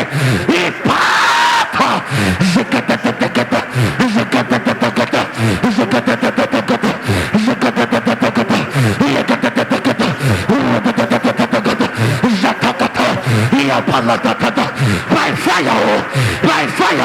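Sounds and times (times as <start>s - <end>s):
person praying aloud: 0.0s - 17.0s.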